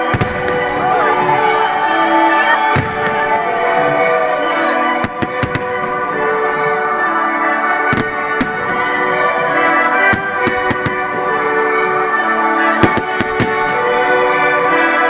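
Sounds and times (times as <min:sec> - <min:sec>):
fireworks bangs: 0:00.0 - 0:15.0
orchestral music with brass: 0:00.0 - 0:15.0.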